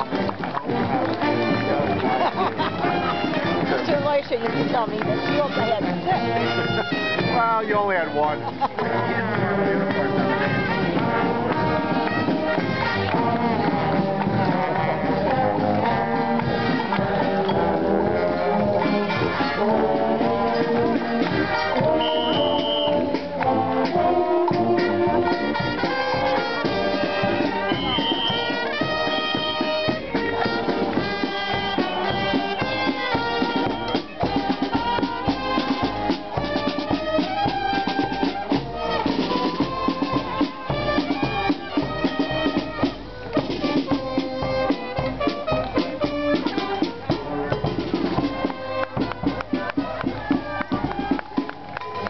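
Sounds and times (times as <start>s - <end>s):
bass drum beat: 0.0s - 52.0s
marching brass band playing: 0.0s - 52.0s.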